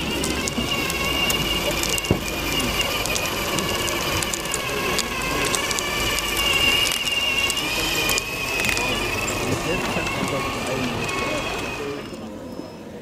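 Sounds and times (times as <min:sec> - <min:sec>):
small clicks and crackle: 0:00.0 - 0:12.2
high motor whine: 0:00.0 - 0:13.0.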